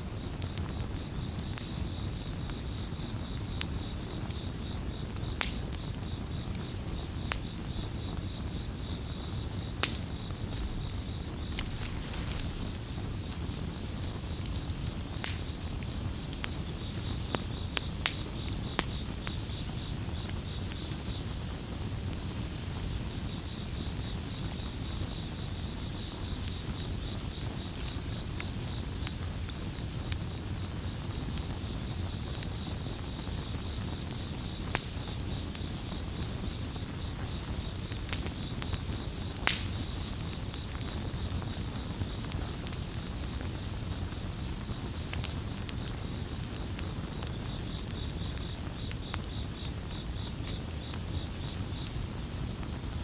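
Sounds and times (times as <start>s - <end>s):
campfire crackling and popping: 0.0s - 53.0s
crickets chirping: 0.0s - 53.0s.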